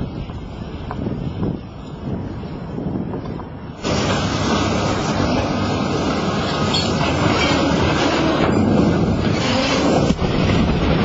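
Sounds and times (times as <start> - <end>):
heavy excavator rumbling on steel: 0.0 - 11.0
wind buffeting microphone: 0.0 - 11.0.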